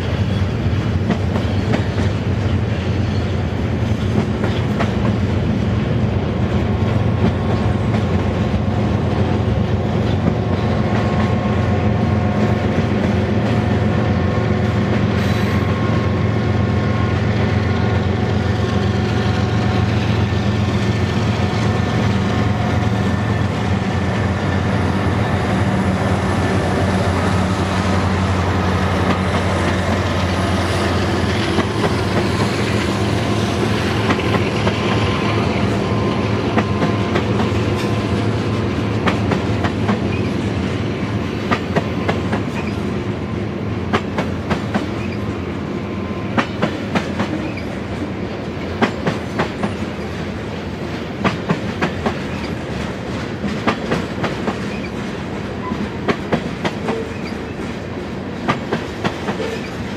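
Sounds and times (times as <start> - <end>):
diesel locomotive engine drone: 0.0 - 59.9
train wheels clicking over rail joints: 0.0 - 59.9.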